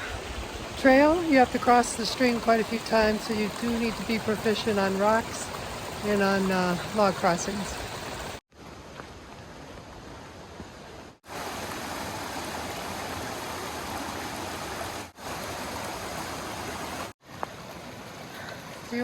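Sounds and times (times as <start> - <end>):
stream rushing over rocks: 0.0 - 8.8, 11.2 - 19.0.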